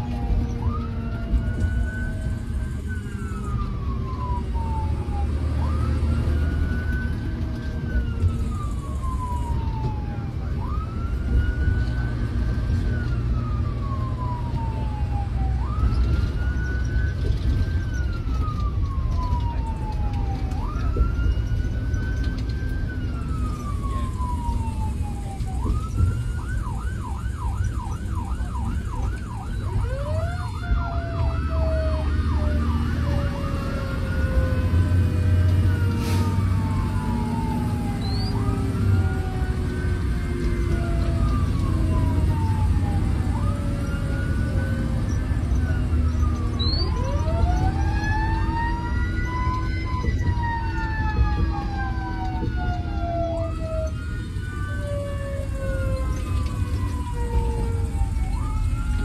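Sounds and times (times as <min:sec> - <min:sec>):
fire engine siren wailing: 0:00.0 - 0:59.0
truck engine and road noise: 0:00.0 - 0:59.0.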